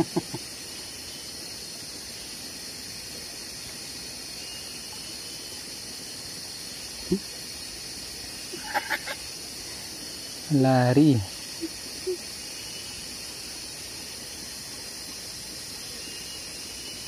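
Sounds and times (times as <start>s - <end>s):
forest insects droning: 0.0s - 17.0s.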